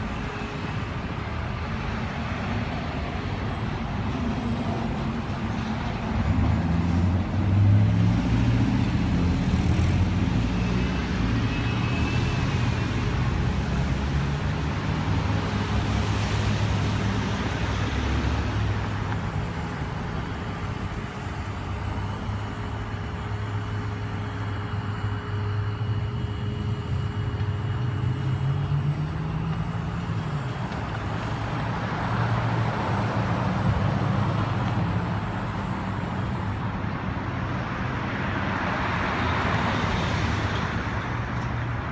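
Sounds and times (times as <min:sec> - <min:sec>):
traffic noise: 0:00.0 - 0:41.9
vehicle engines humming: 0:00.0 - 0:41.9.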